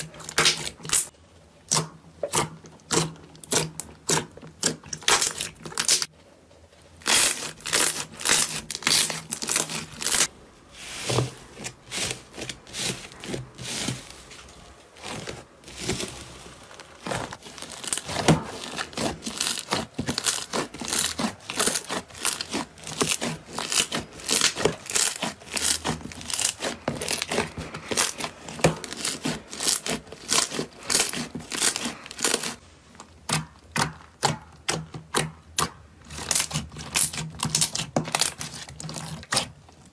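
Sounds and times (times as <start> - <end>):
slime crackling and popping: 0.0 - 6.1, 7.0 - 10.3, 15.0 - 39.5.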